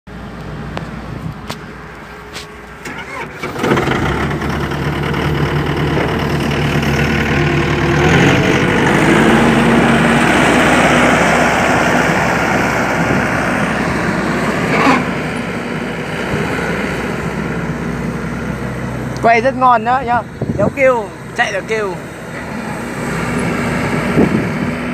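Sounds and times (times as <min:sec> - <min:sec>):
loader engine starting and running: 0:00.1 - 0:24.9.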